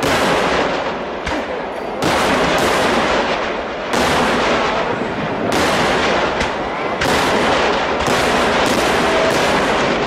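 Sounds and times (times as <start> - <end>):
firecrackers barrage: 0.0 - 10.0.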